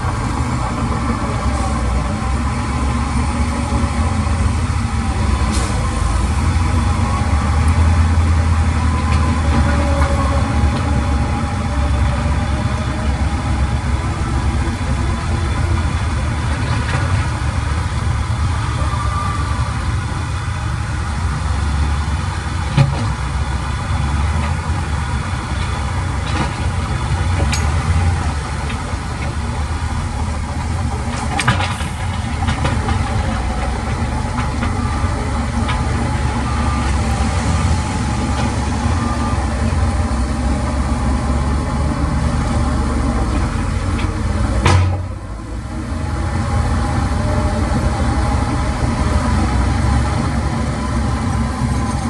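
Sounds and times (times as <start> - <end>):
heavy machine engine rumbling: 0.0 - 52.0.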